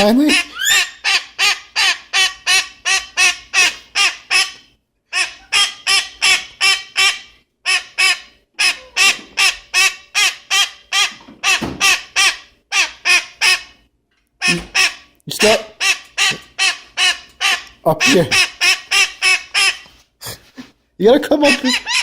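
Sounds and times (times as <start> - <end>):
parrot calling: 0.0 - 13.8, 14.4 - 20.0, 21.4 - 22.0.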